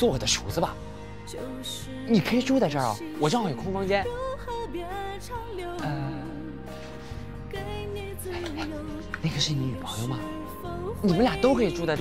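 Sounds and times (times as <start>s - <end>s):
pop ballad music: 0.0s - 12.0s.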